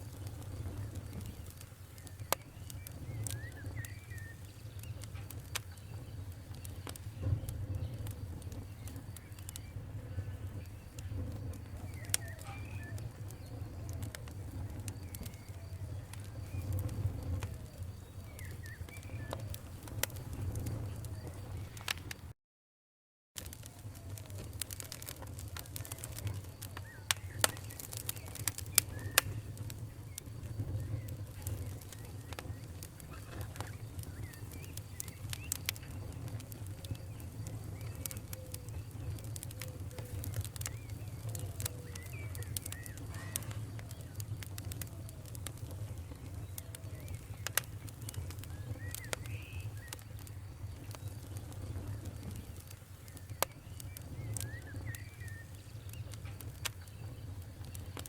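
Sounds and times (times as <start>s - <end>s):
faint chirping whistles: 0.0s - 21.9s, 23.8s - 58.0s
fire crackling and popping: 0.0s - 22.4s, 23.4s - 58.0s
fire flames rumbling: 0.0s - 22.4s, 23.4s - 58.0s.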